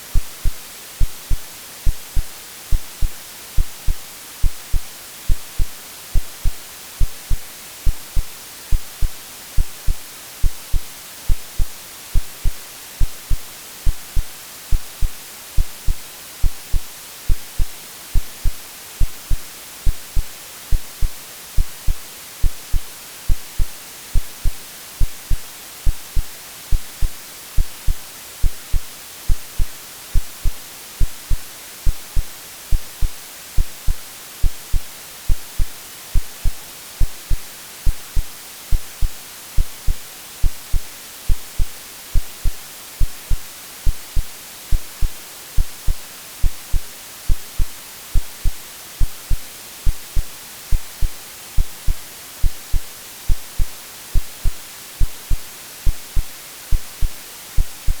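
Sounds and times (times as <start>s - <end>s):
white noise hiss: 0.0s - 58.0s
synthetic heartbeat thumps: 0.2s - 58.0s.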